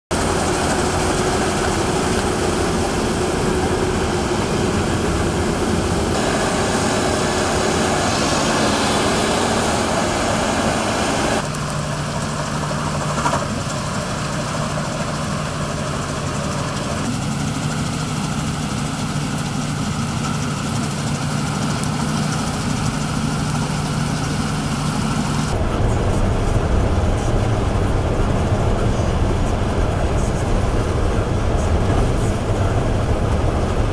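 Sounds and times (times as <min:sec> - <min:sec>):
combine harvester running: 0:00.1 - 0:33.9.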